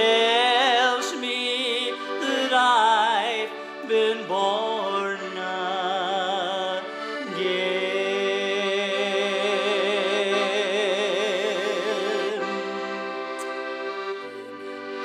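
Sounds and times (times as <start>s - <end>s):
accordion chords: 0.0s - 15.0s.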